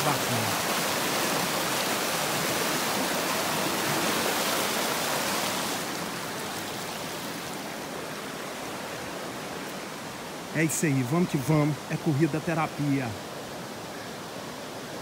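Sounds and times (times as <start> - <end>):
stream splashing over rocks: 0.0 - 15.0.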